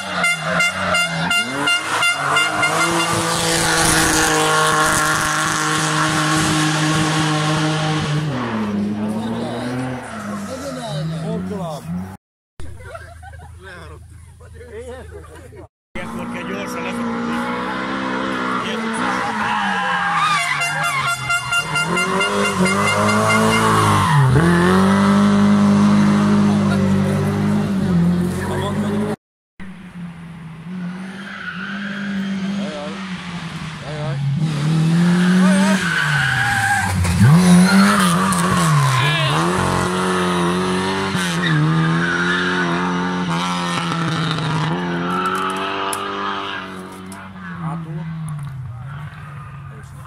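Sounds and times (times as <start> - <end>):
rally car engine at high revs: 0.0 - 12.2, 16.0 - 50.0.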